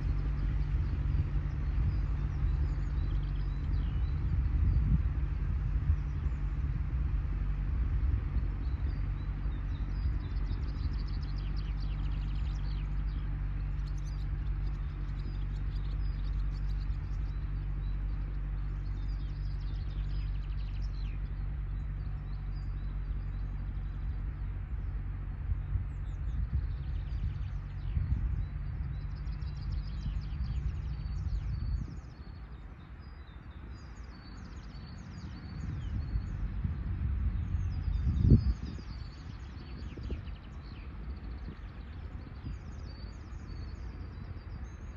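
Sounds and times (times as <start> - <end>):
distant tractor engine droning: 0.0 - 44.9
small birds chirping: 0.0 - 44.9.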